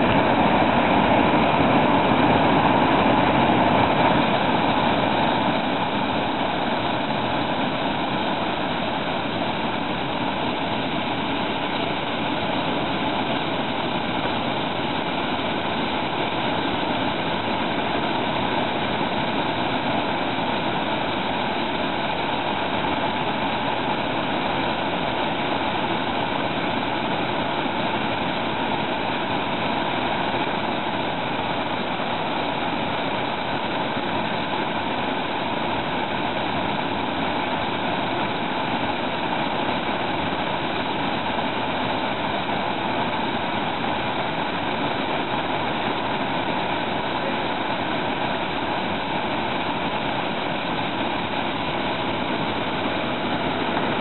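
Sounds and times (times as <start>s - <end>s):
water rushing over boulders: 0.0s - 54.0s.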